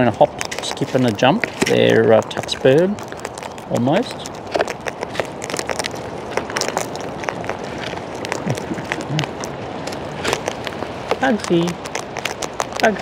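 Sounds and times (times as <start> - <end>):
cockatoos cracking seed: 0.0 - 13.0
steady hiss: 0.0 - 13.0.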